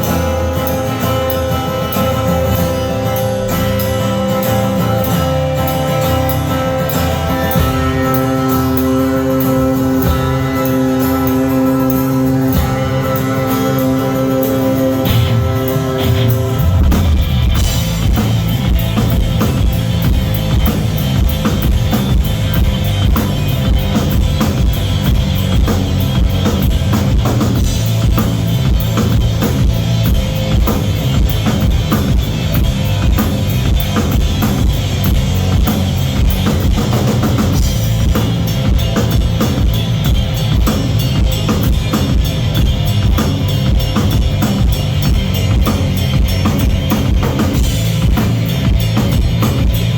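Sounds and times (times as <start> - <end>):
drum kit beat: 0.0 - 49.9
rock band playing live: 0.0 - 49.9.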